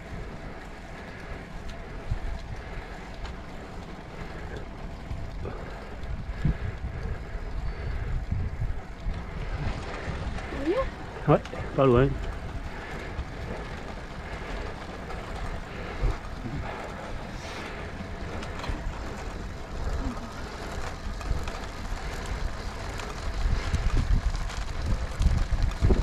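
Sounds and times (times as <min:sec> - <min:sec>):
bicycle road noise: 0:00.0 - 0:26.0
wind buffeting microphone: 0:00.0 - 0:26.0.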